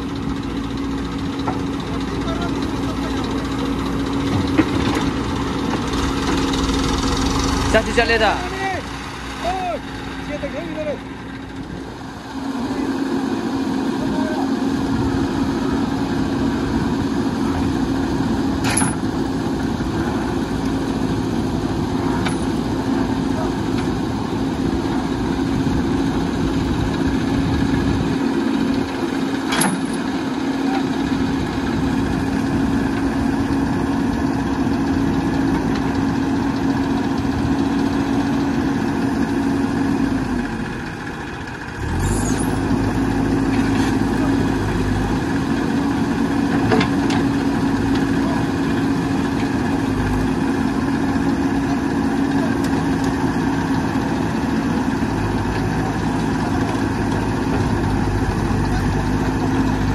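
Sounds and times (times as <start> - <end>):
diesel engines idling: 0.0 - 59.9.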